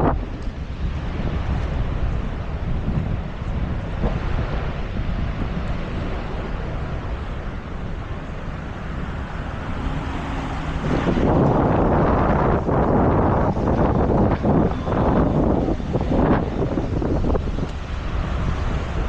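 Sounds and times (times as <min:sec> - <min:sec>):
steady rushing noise: 0:00.0 - 0:19.0
wind buffeting microphone: 0:00.0 - 0:19.0.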